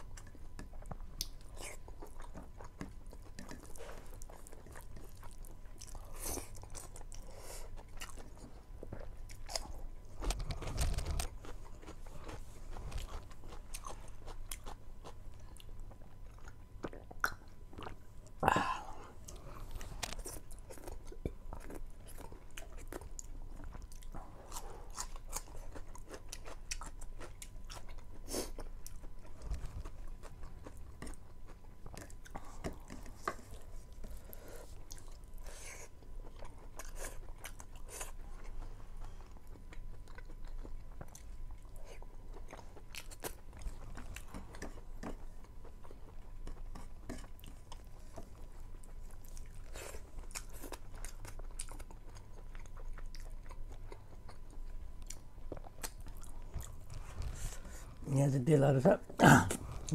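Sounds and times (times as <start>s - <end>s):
person chewing: 0.0s - 58.0s, 59.1s - 59.9s.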